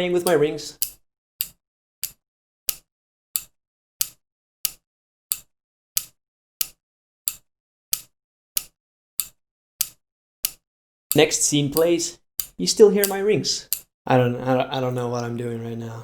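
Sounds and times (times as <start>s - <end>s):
metal rings clicking together: 0.2s - 13.9s.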